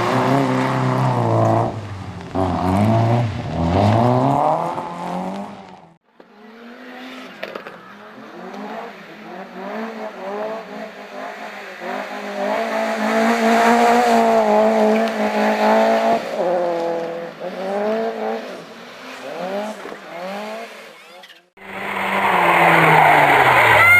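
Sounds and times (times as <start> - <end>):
racing car engine revving: 0.0 - 23.9.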